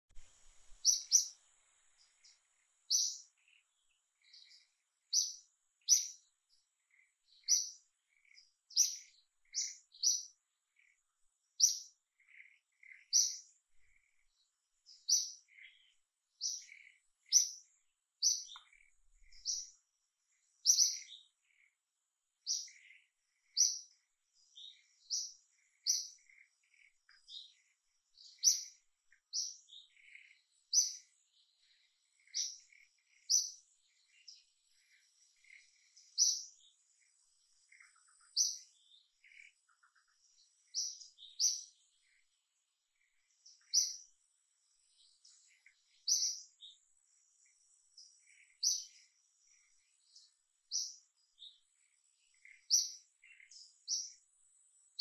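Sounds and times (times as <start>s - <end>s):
small bird chirping: 0.0s - 55.0s.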